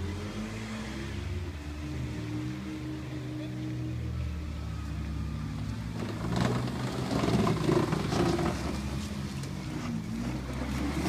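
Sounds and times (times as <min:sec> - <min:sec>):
small car engine pulling uphill: 0:00.0 - 0:11.0.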